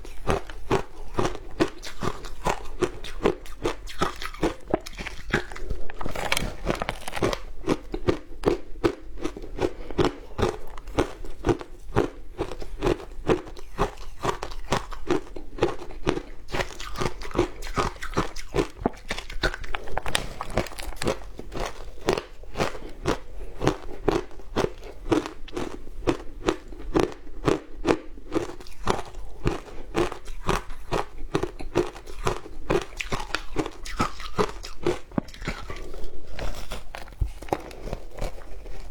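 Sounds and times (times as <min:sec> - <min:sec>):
ice being bitten and chewed: 0:00.0 - 0:38.9.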